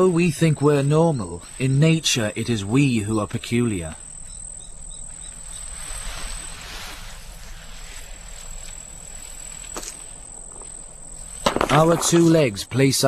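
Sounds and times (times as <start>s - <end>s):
high-pitched insect trill: 0.0s - 13.0s
soft rushing hiss: 0.0s - 13.0s.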